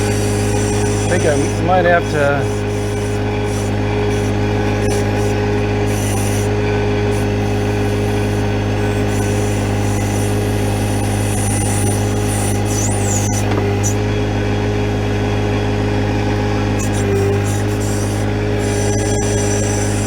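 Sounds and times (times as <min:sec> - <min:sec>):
short high-pitched squeaks: 0:00.0 - 0:14.0, 0:16.8 - 0:20.0
tractor diesel engine running: 0:00.0 - 0:20.0.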